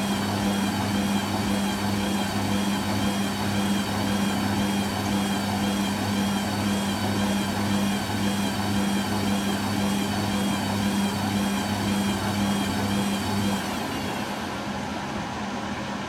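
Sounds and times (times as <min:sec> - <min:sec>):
washing machine low hum: 0:00.0 - 0:16.0
washing machine whine: 0:00.0 - 0:16.0.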